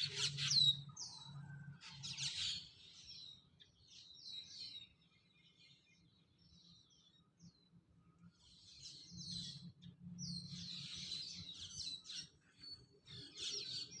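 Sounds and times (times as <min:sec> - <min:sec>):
songbirds chirping and twittering: 0:00.0 - 0:14.0.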